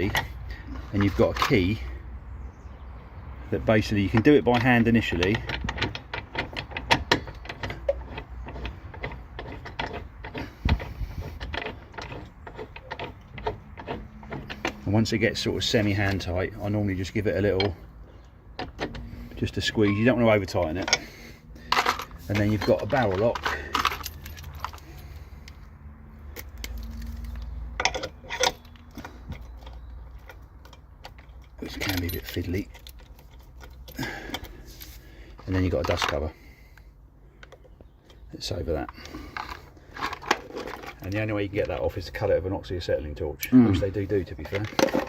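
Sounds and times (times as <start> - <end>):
wheel lock clicking and scraping: 0.0 - 2.0, 3.5 - 42.3, 43.3 - 45.0.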